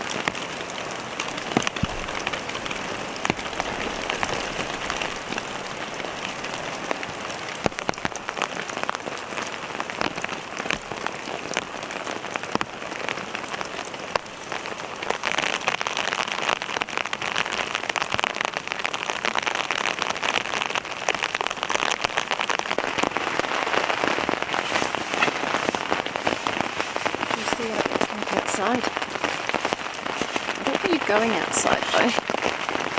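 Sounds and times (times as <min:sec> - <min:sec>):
rain pattering on tent fabric: 0:00.0 - 0:32.9.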